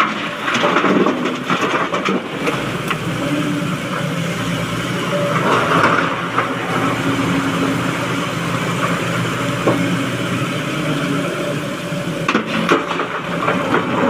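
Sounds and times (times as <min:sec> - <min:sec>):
excavator diesel engine and hydraulics: 0:00.0 - 0:14.0.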